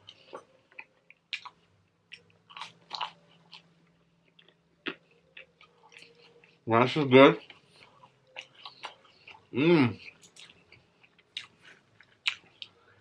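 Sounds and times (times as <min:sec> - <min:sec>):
person chewing: 0:00.0 - 0:06.7, 0:07.3 - 0:13.0.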